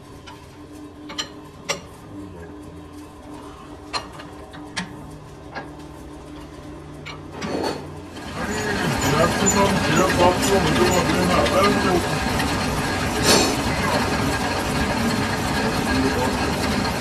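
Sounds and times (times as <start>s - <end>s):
lathe humming: 0.0s - 17.0s.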